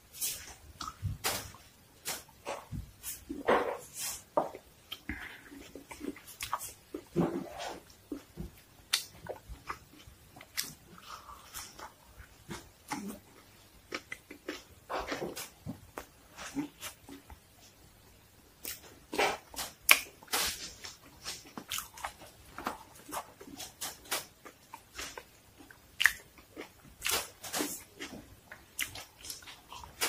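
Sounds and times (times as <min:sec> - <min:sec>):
person chewing food: 0:00.2 - 0:17.8, 0:18.6 - 0:30.0.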